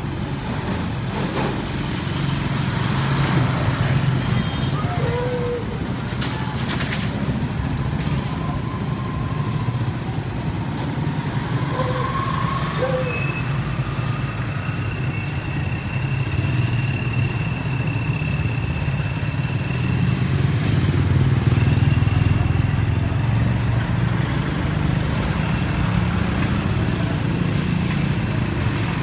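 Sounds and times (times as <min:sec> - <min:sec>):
vehicle engines passing: 0:00.0 - 0:29.0.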